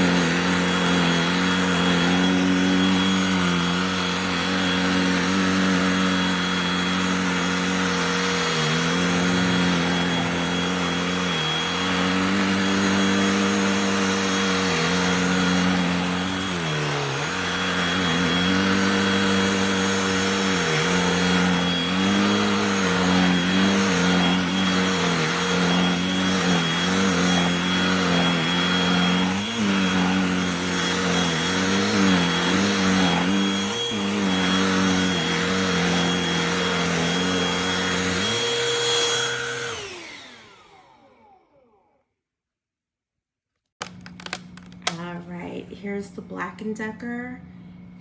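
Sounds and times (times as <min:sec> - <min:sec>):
handheld vacuum running: 0:00.0 - 0:42.0, 0:43.8 - 0:48.0.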